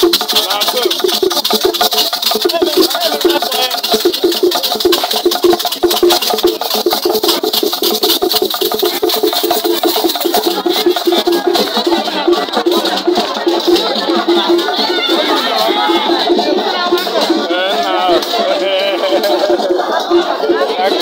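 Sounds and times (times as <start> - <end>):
log drum beaten with sticks: 0.0 - 21.0
rattles shaking: 0.0 - 21.0.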